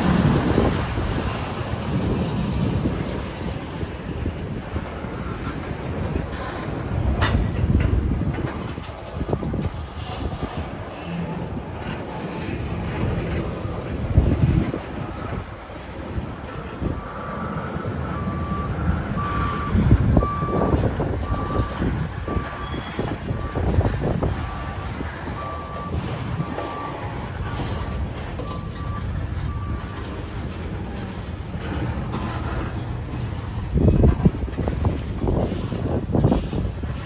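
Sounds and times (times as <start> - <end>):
train rumble and clatter: 0.0 - 37.0.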